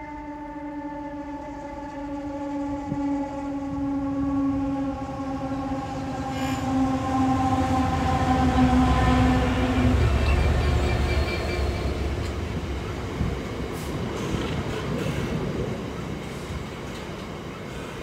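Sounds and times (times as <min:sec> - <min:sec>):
locomotive droning tone: 0:00.0 - 0:18.0
rumble of wheels on rail: 0:00.0 - 0:18.0.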